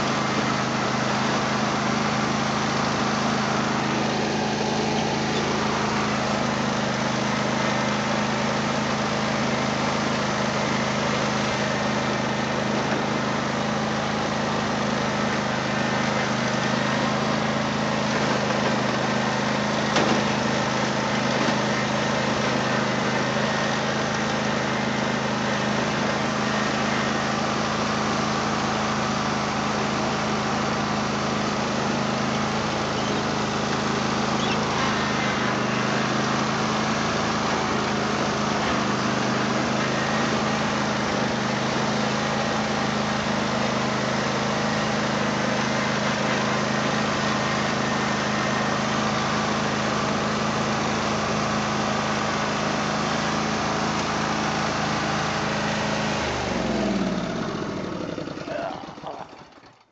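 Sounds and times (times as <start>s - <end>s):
riding lawn mower engine running: 0.0s - 59.9s.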